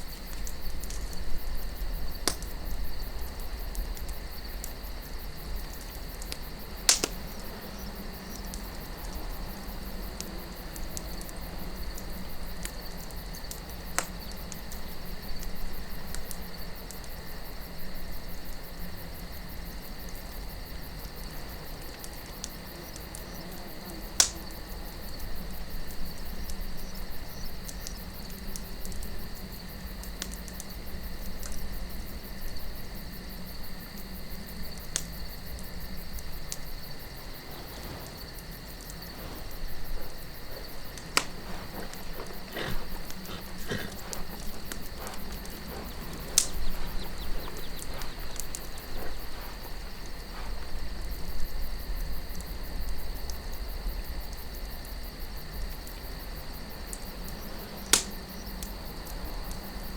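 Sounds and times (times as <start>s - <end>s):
campfire crackling: 0.0s - 59.9s
night insects chorus: 0.0s - 59.9s.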